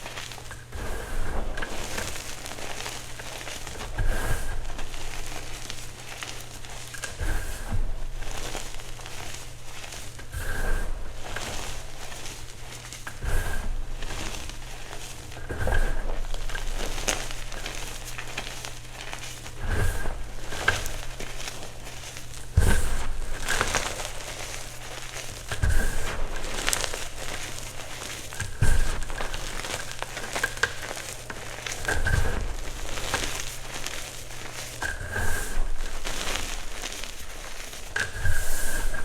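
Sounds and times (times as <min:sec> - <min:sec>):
chalk being crushed: 0:00.0 - 0:39.0.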